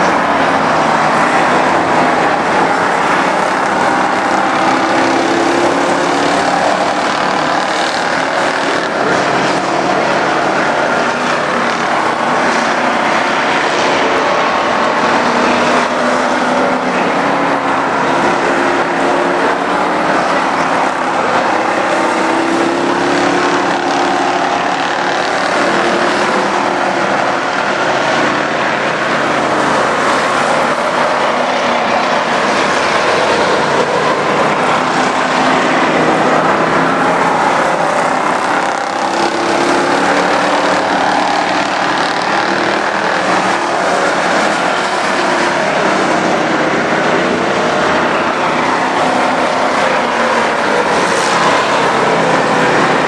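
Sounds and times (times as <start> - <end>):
race car engines passing by: 0.0 - 53.0.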